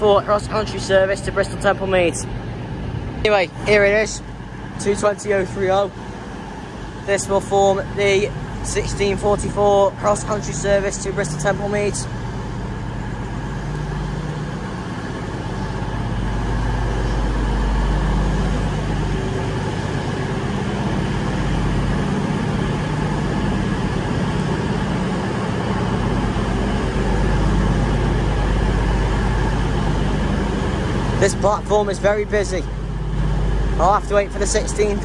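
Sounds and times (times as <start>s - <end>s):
diesel engines idling: 0.0s - 35.0s.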